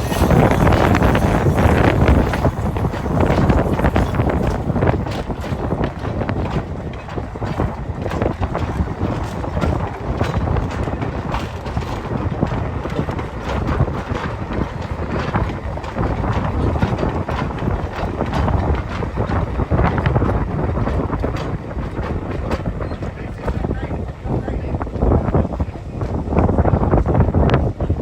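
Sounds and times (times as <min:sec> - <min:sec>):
train wheels rattling on track: 0:00.0 - 0:28.0
wind buffeting microphone: 0:00.0 - 0:28.0.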